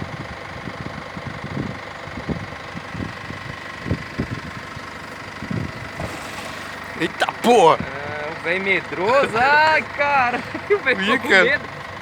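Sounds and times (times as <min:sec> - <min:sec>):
engine idling with whine: 0:00.0 - 0:12.0.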